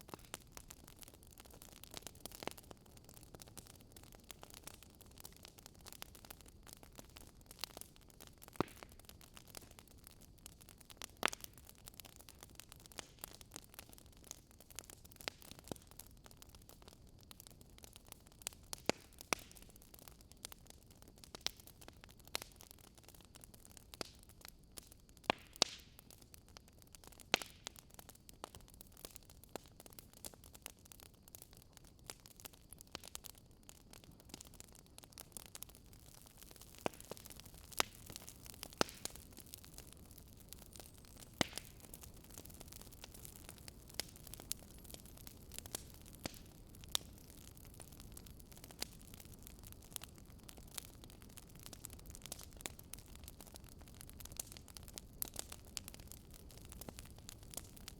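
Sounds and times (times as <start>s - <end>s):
campfire crackling: 0.0s - 57.9s.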